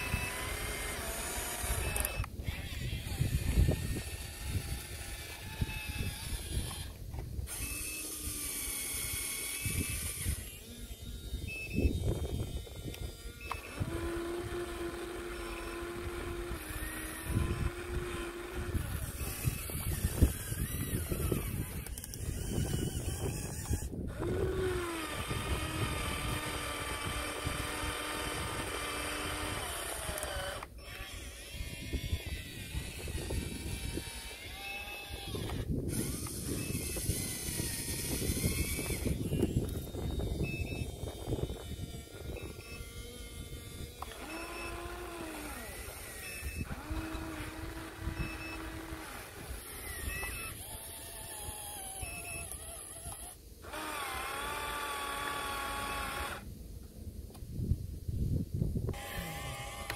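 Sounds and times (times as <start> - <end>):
electric motors whining: 0.0 - 56.5, 58.9 - 59.9.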